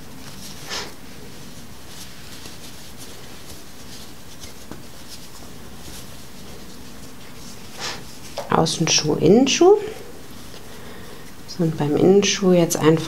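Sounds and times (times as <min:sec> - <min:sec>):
fabric rustling and rubbing: 0:00.0 - 0:13.0.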